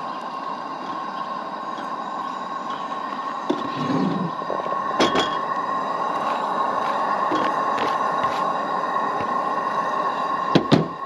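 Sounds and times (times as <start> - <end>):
pan of beans hissing: 0.0 - 11.0.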